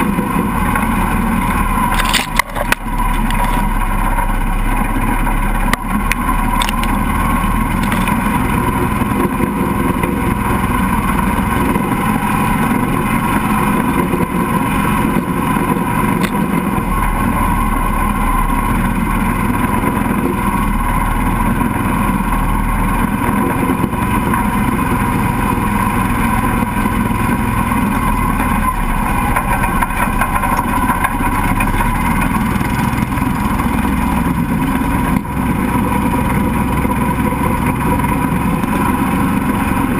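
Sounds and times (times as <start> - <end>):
small vehicle engine running: 0.0 - 39.9
water churning and splashing: 0.0 - 39.9.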